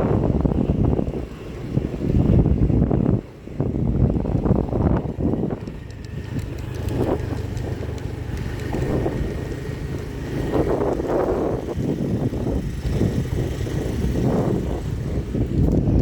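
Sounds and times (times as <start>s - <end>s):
vehicle engine rumble: 0.0s - 16.0s
wind gusting on microphone: 0.0s - 16.0s.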